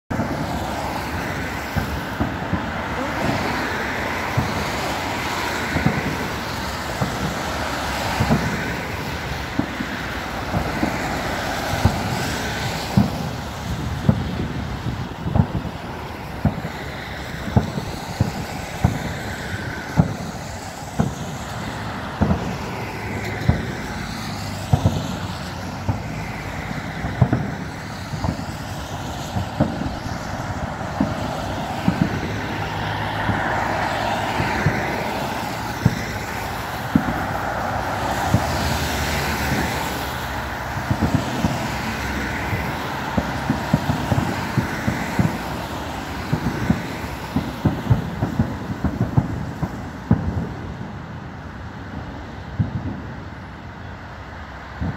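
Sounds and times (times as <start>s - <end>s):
traffic on wet road: 0.0s - 54.9s
distant fireworks booming: 0.1s - 54.9s.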